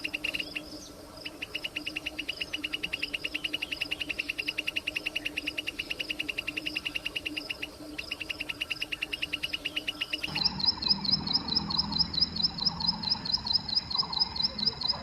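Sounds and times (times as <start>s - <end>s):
bird singing buzzy trill: 0.0s - 15.0s.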